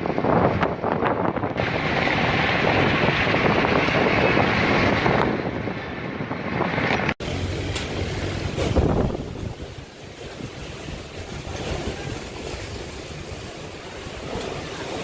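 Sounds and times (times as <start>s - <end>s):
strong wind buffeting microphone: 0.0s - 7.2s, 7.9s - 15.0s.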